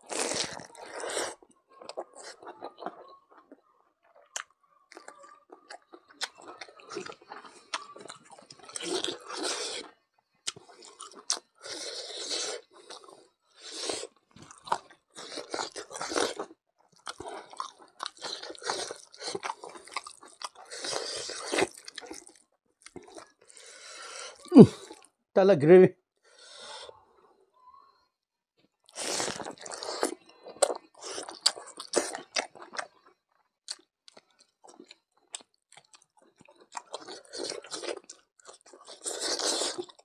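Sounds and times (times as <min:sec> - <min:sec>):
man chewing and crunching food: 0:00.0 - 0:25.2, 0:28.6 - 0:40.0.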